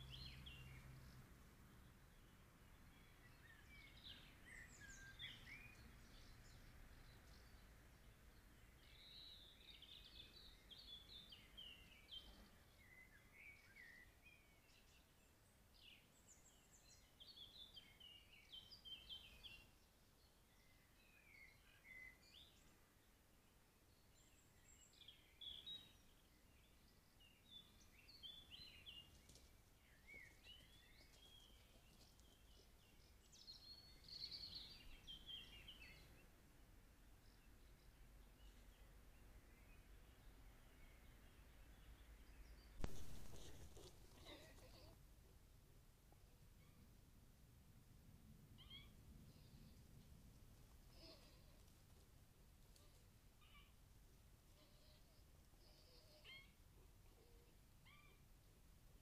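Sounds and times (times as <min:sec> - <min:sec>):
faint songbird song: 0:00.0 - 0:59.0.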